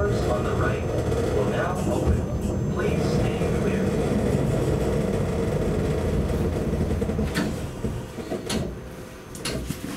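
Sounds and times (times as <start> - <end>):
train motors and wheels rumbling: 0.0 - 9.9.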